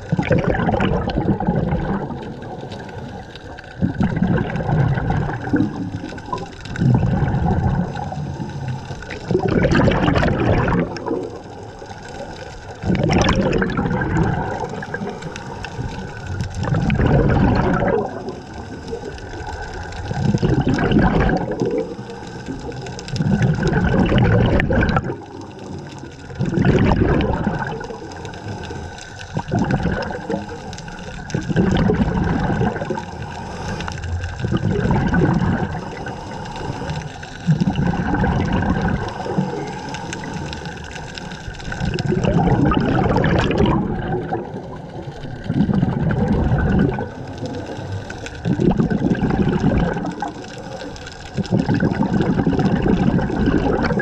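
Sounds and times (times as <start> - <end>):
faint steady hum: 0.0 - 54.0
regulator bubbles gurgling underwater: 0.0 - 54.0.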